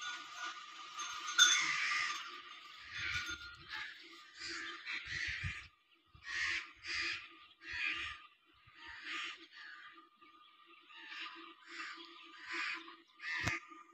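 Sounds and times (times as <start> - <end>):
birds calling harshly: 0.0 - 13.9.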